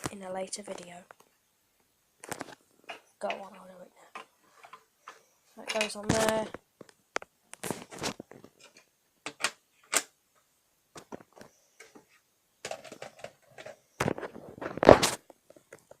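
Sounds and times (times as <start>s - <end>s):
plastic parts clicking and tapping: 2.2s - 16.0s.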